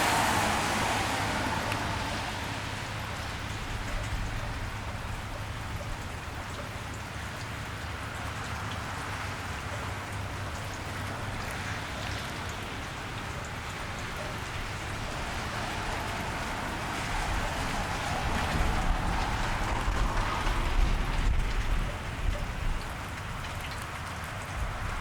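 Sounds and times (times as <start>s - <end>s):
rain on wet street: 0.0s - 25.0s.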